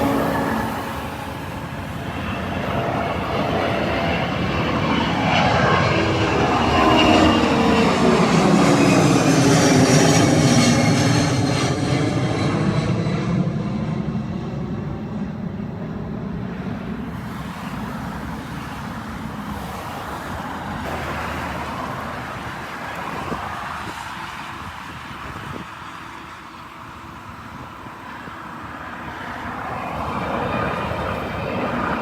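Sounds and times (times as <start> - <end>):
jet airliner passing overhead: 0.0 - 32.0.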